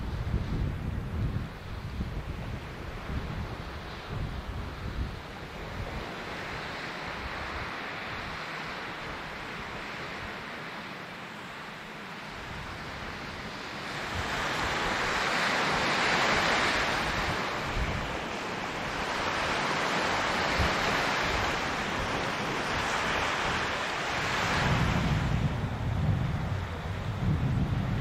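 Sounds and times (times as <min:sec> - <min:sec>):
wind buffeting microphone: 0:00.0 - 0:10.5, 0:12.3 - 0:28.0
sea waves washing onto shore: 0:00.0 - 0:28.0.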